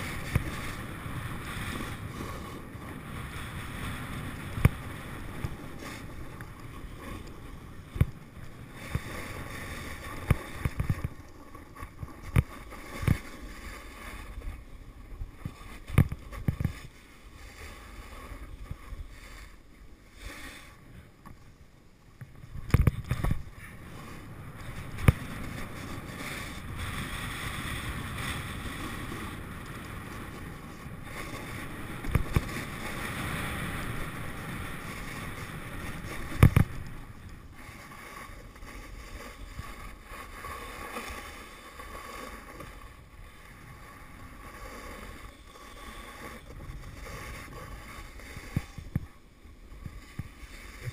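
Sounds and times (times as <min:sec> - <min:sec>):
snowboard scraping on snow: 0:00.0 - 0:21.0, 0:22.9 - 0:50.9.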